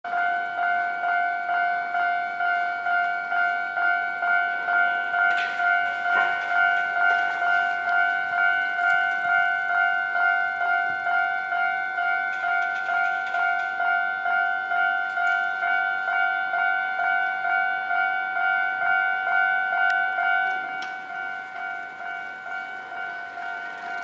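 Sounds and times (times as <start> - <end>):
level crossing warning bell: 0.0 - 24.0.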